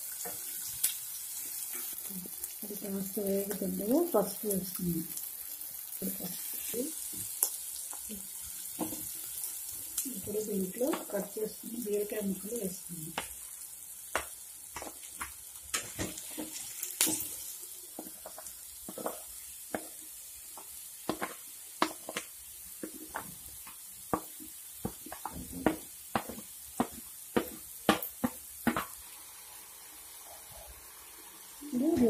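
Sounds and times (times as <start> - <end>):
faint sizzle: 0.0 - 32.0.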